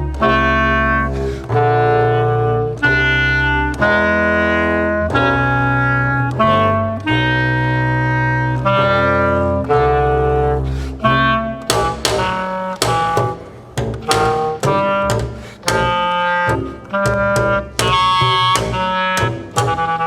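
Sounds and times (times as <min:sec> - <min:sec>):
clarinet: 0:00.0 - 0:20.0
double bass: 0:00.0 - 0:20.0.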